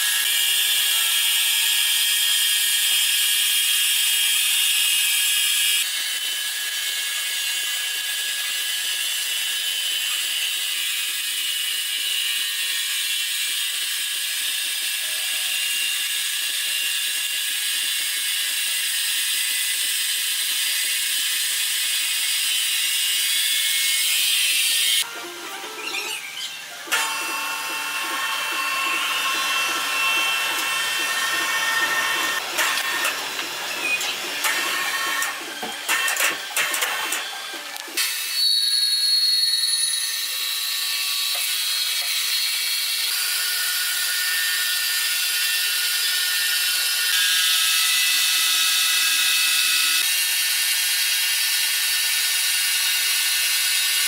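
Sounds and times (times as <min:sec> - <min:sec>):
sawmill machinery whining: 0:00.0 - 0:54.0.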